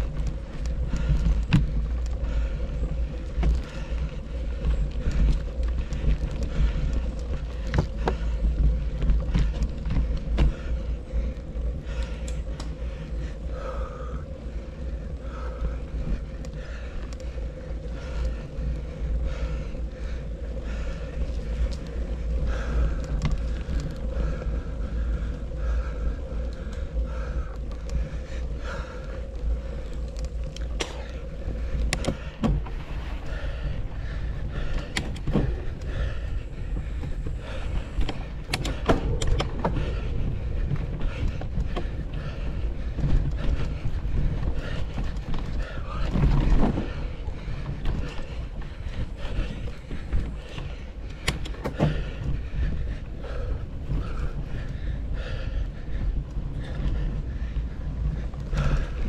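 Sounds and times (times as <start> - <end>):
bike clicking and rattling: 0.0 - 59.0
rumble of wind and tyres: 0.0 - 59.0.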